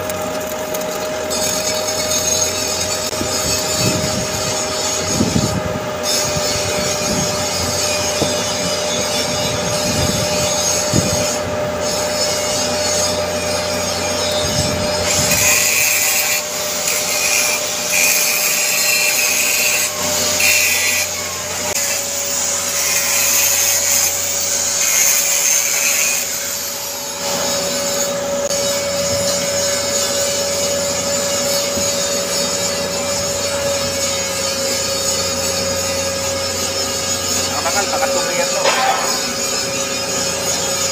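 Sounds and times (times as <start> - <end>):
welding arc crackling and hissing: 0.0 - 11.3, 14.1 - 40.9.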